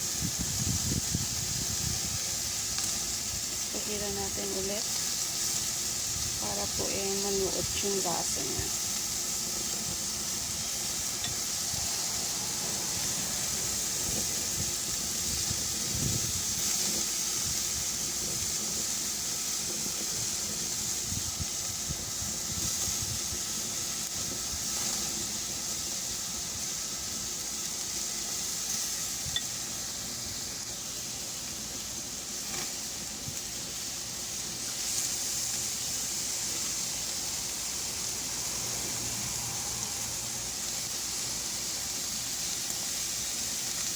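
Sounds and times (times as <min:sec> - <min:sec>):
meat skewers sizzling on a grill: 0:00.0 - 0:43.9.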